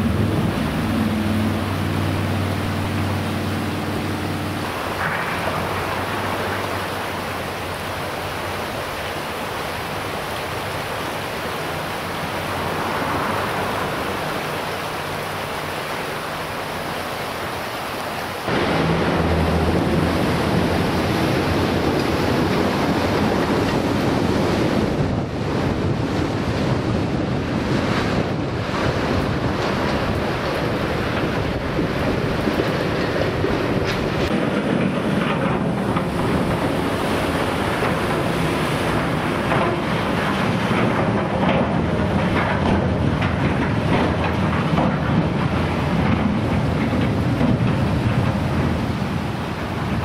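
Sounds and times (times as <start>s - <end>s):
wind buffeting microphone: 0.0s - 17.6s, 18.4s - 50.0s
river rapids rushing over stones: 0.0s - 50.0s.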